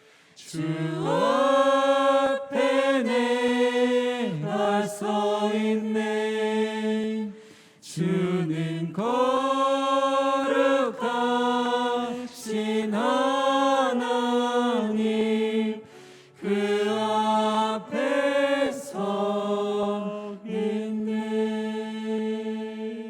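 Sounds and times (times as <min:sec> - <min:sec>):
group singing worship song: 0:00.1 - 0:23.0.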